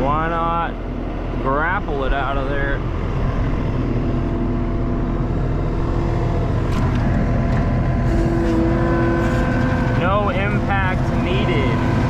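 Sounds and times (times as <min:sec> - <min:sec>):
diesel engine running: 0:00.0 - 0:12.0
thin steady whine: 0:00.0 - 0:12.0.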